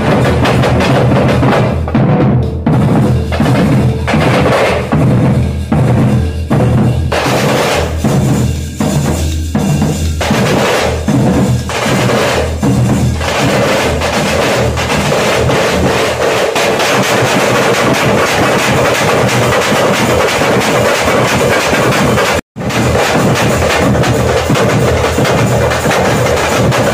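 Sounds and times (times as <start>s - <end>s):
drum troupe playing fast rhythm: 0.0s - 26.9s.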